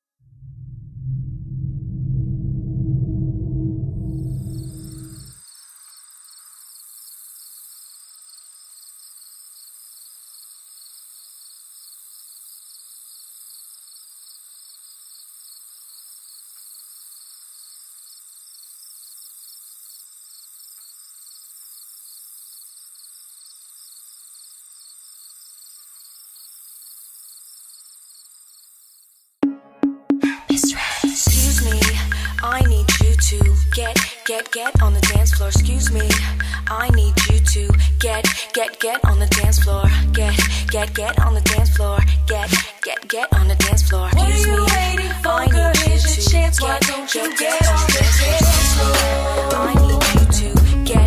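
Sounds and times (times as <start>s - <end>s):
insects chirping: 4.2s - 29.4s, 31.2s - 39.2s, 40.6s - 49.8s.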